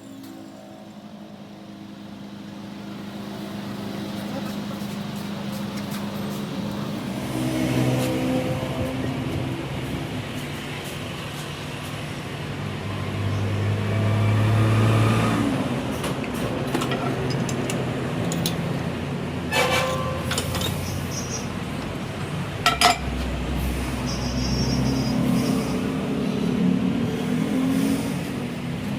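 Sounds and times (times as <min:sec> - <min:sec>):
engine running: 0:00.0 - 0:28.9.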